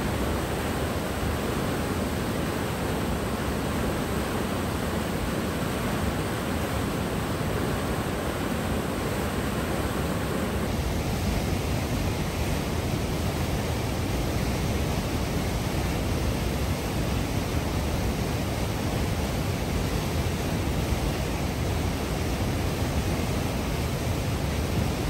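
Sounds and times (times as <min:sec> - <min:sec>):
whitewater rushing: 0:00.0 - 0:25.0.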